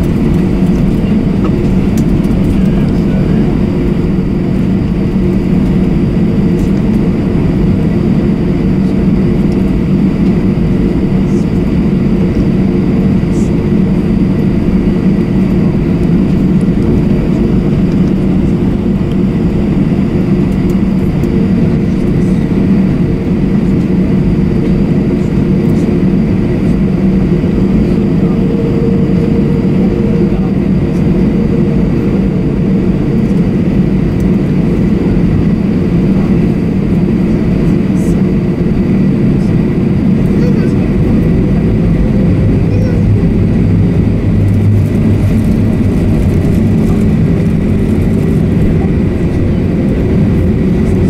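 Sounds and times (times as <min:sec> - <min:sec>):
constant whining tones: 0:00.0 - 0:51.0
jet engines droning: 0:00.0 - 0:51.0
low rumble: 0:00.0 - 0:51.0.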